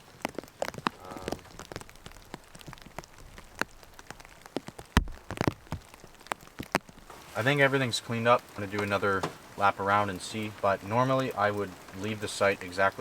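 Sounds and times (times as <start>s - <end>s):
raindrops tapping: 0.0s - 13.0s.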